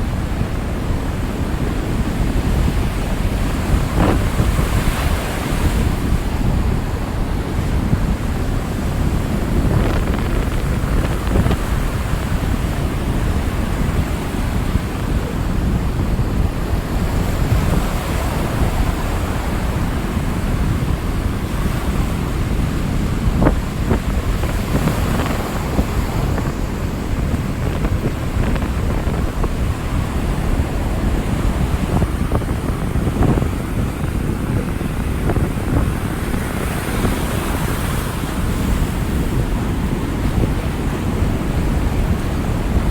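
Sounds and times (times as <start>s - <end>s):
waves breaking and rushing: 0.0s - 42.9s
wind buffeting microphone: 0.0s - 42.9s.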